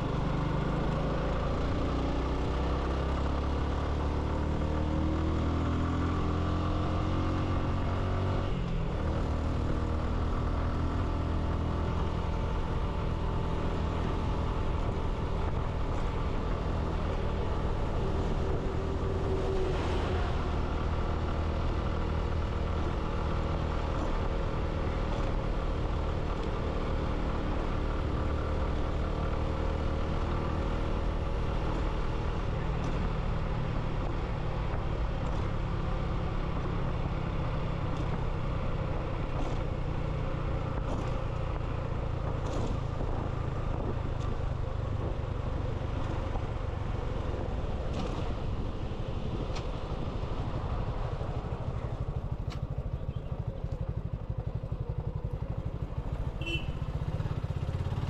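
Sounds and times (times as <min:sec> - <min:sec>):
road and wind noise: 0:00.0 - 0:58.0
motorcycle engine running: 0:08.8 - 0:58.0.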